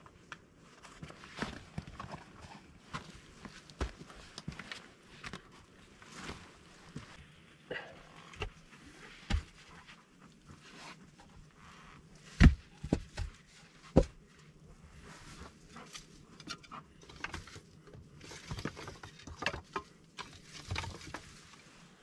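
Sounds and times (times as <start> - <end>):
rustling: 0.6 - 22.0.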